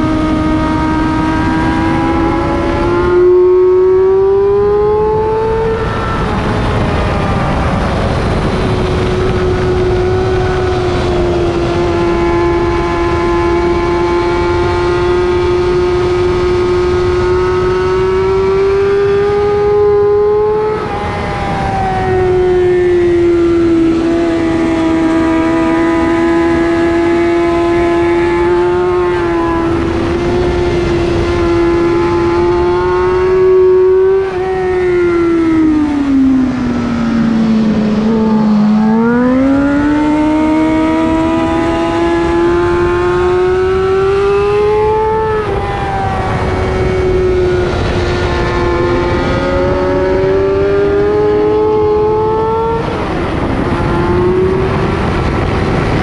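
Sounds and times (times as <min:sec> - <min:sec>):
motorcycle engine revving hard: 0:00.0 - 0:56.0.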